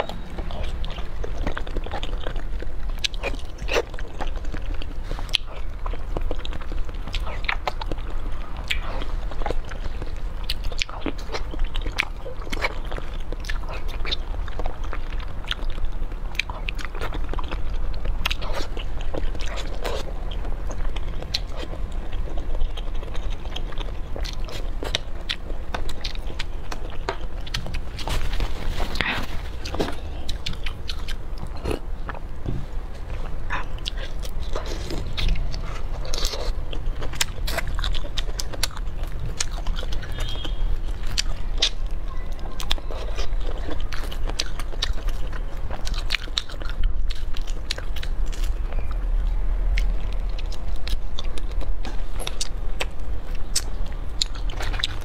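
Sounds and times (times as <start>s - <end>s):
person biting and chewing food: 0.0s - 41.9s, 42.5s - 55.0s.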